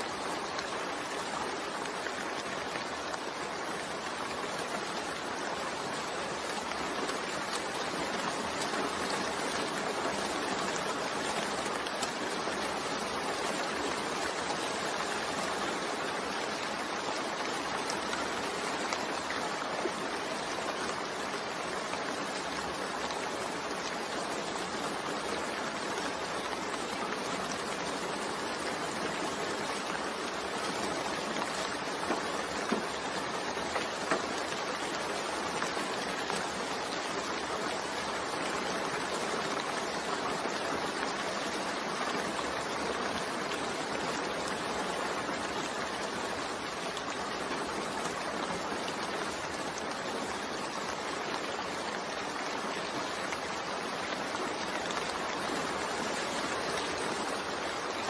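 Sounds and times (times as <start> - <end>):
louder raindrops: 0.0 - 58.0
steady rain: 0.0 - 58.0.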